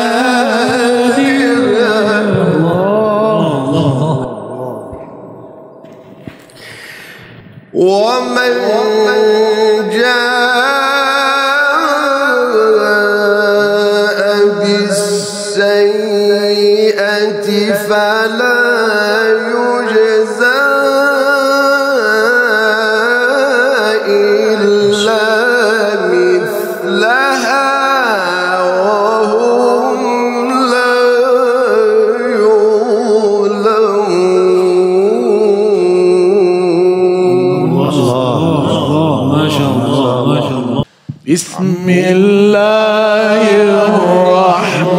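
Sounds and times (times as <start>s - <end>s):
man chanting melodically: 0.0s - 44.9s.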